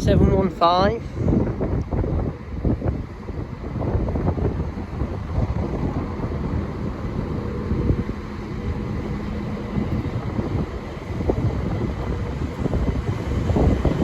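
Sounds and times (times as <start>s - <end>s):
electric train rumble: 0.0s - 14.0s
wind buffeting microphone: 0.0s - 14.0s.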